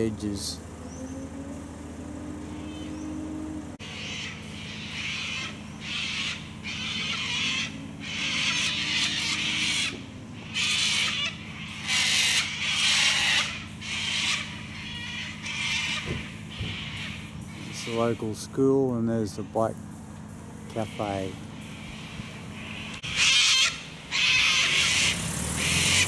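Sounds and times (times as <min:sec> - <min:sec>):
steady low hum: 0:00.0 - 0:26.0
cockatoos screeching: 0:02.4 - 0:18.5, 0:20.7 - 0:26.0.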